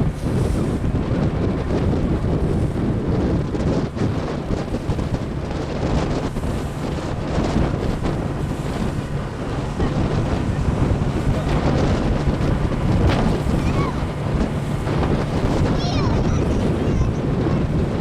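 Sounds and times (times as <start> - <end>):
boat motor drone: 0.0 - 18.0
water rushing past hull: 0.0 - 18.0
wind buffeting microphone: 0.0 - 18.0.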